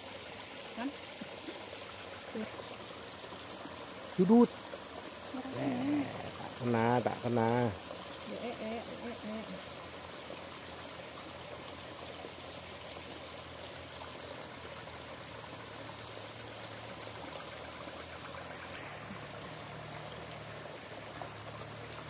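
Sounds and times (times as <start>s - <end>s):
stream water trickling into pool: 0.0s - 22.0s.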